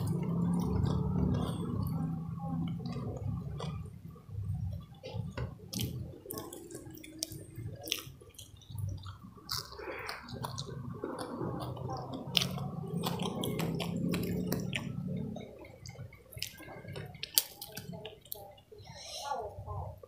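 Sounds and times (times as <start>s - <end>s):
wet chewing and lip-smacking: 0.0s - 18.9s.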